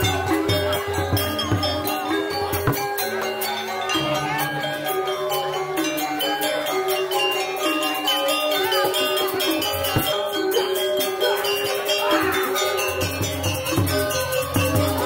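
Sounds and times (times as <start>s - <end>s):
metallophones ringing melody: 0.0s - 15.0s
rapid cymbal clashes: 0.0s - 15.0s.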